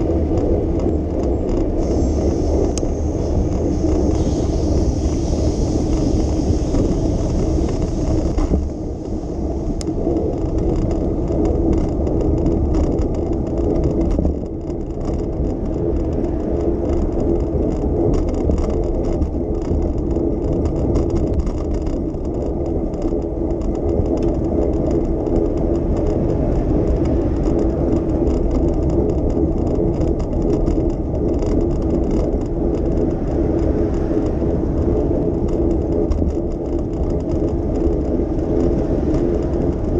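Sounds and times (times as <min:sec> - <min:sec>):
bicycle tyres whirring on road: 0:00.0 - 0:39.9
city traffic hum: 0:00.0 - 0:39.9.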